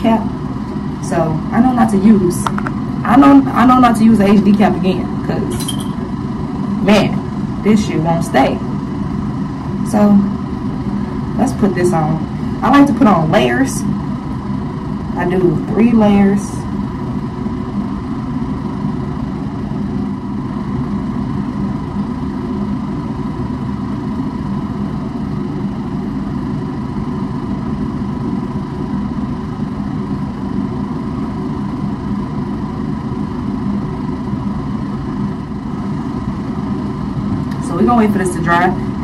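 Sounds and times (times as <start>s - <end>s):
machine hum: 0.0s - 39.0s.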